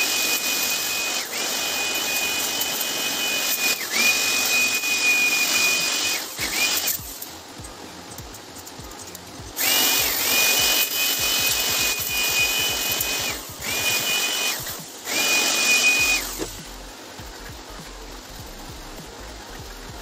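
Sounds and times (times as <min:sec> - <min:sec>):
electric air blower whining: 0:00.0 - 0:20.0.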